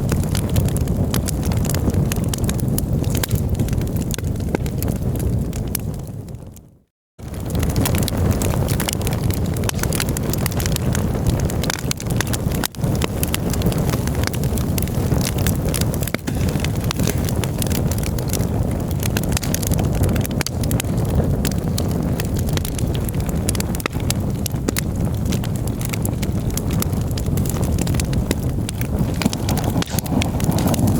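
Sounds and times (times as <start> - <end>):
low fire rumble: 0.0 - 30.9
wood crackling and popping: 0.0 - 30.9.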